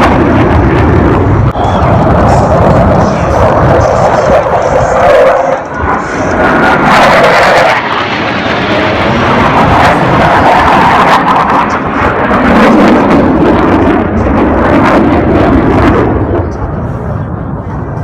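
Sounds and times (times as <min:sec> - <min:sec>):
jets roaring past: 0:00.0 - 0:18.0.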